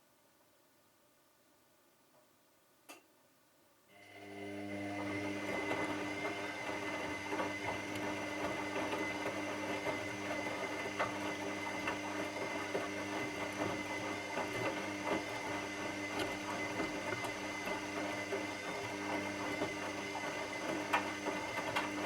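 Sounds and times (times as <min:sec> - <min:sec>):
washing machine running: 0:04.0 - 0:22.0.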